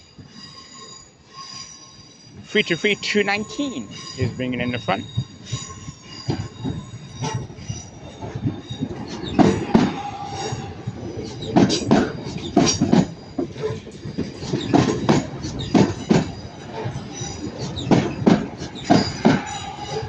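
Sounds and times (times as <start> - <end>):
train wheels squealing on rails: 0.0 - 20.0.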